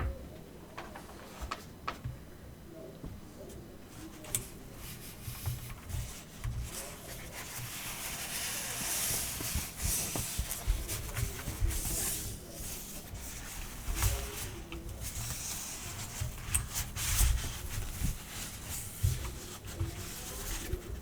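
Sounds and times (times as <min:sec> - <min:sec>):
packaging rustling and rubbing: 0:00.7 - 0:02.0, 0:04.8 - 0:21.0.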